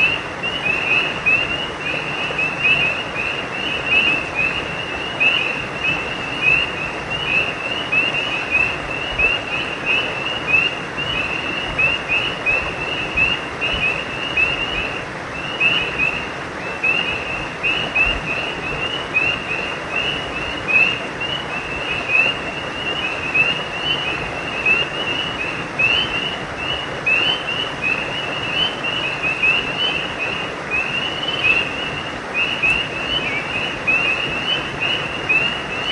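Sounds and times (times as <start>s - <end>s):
frogs chirping: 0.0s - 35.9s.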